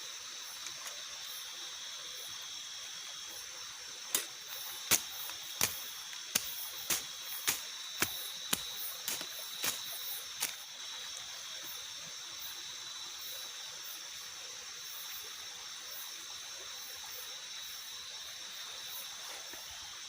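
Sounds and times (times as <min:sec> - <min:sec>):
steady high-pitched hiss: 0:00.0 - 0:20.0.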